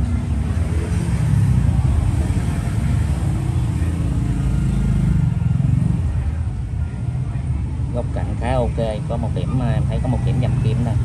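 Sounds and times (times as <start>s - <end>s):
low rumble of road traffic: 0.0s - 11.0s
vehicle engine hum wavering: 0.0s - 11.0s.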